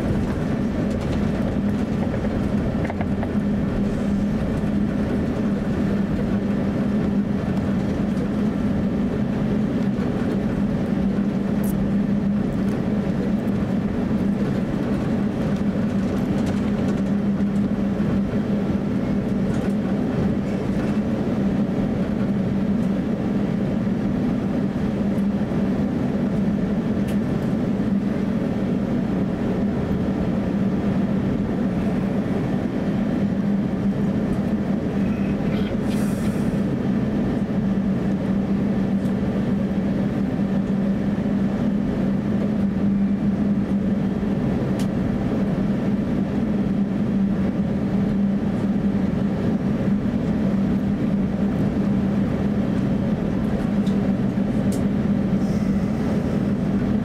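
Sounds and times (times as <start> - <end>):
air conditioning: 0.0 - 57.0
aircraft engines droning: 0.0 - 57.0.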